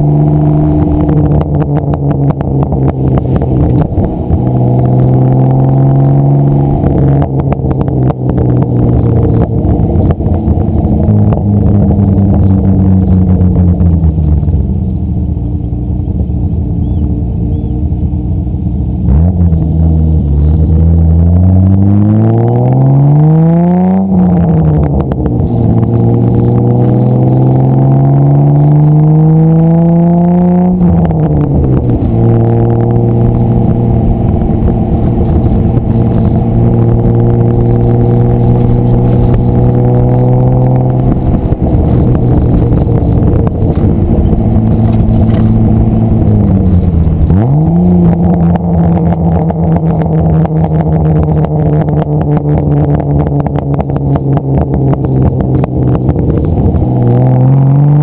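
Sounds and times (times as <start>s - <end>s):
car engine revving through loud exhaust: 0.0s - 58.0s.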